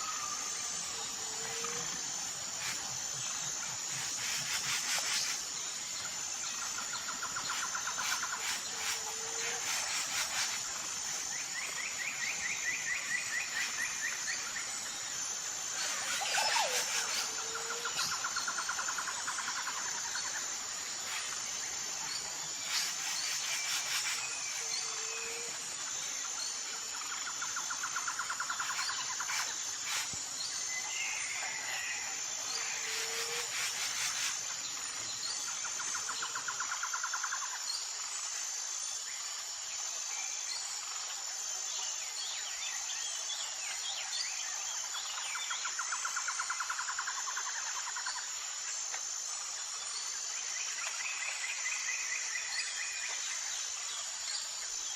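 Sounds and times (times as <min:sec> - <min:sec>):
high-pitched insect chorus: 0:00.0 - 0:54.9
short rapid insect trills: 0:00.0 - 0:54.9.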